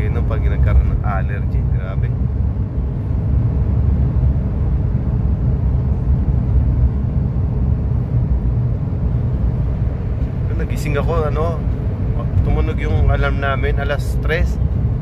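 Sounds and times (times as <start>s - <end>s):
car driving interior rumble: 0.0s - 15.0s.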